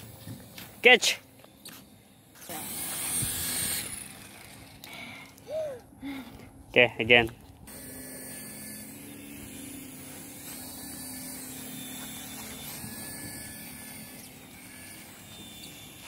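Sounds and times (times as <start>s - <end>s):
toy helicopter rotor whirring: 0.0s - 5.9s, 7.7s - 16.0s.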